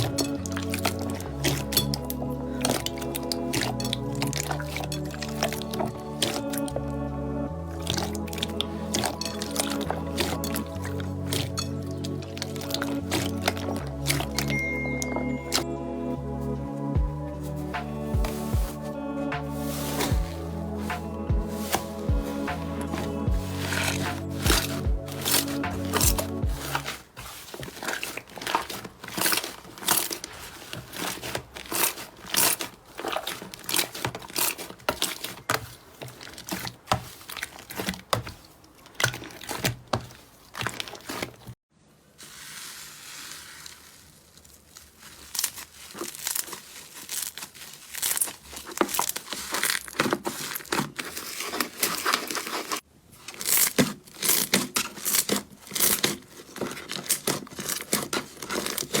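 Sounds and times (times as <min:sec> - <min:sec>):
slime crackling and tearing: 0:00.0 - 0:14.6, 0:17.4 - 0:41.6, 0:42.2 - 0:59.0.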